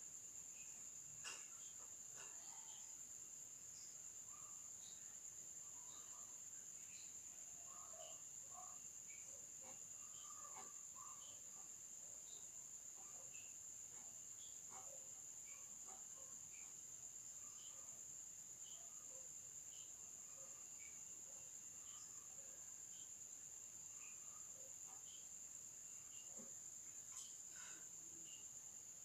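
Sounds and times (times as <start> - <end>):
high-pitched insect trill: 0.1 - 29.0.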